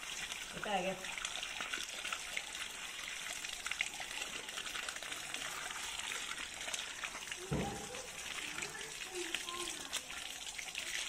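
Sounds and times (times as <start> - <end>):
water gushing and splashing: 0.0 - 11.0.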